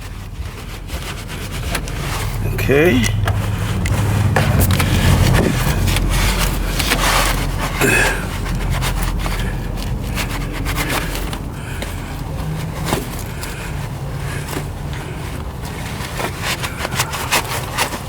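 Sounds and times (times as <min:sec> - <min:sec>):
scraping and rubbing strokes: 0:00.0 - 0:18.0
steady low hum: 0:00.0 - 0:18.0.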